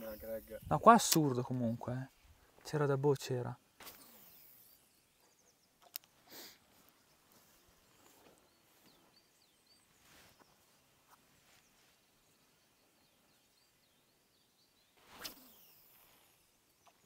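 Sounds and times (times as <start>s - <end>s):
faint bird chirps: 0.0s - 0.8s, 3.9s - 17.0s.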